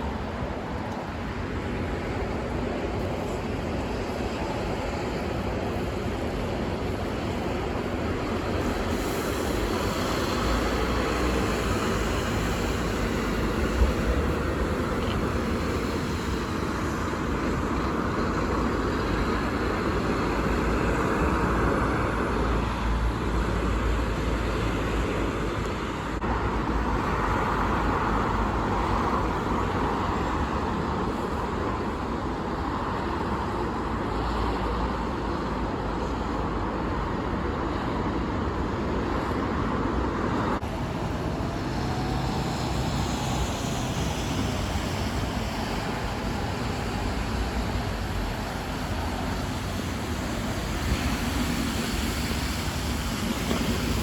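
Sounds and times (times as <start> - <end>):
bus engines rumbling: 0.0 - 54.0
road traffic: 0.0 - 54.0.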